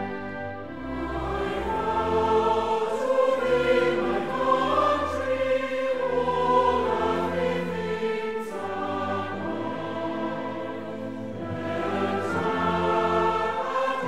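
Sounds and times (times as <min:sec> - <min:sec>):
choir singing held notes: 0:00.0 - 0:14.0
orchestral music: 0:00.0 - 0:14.0.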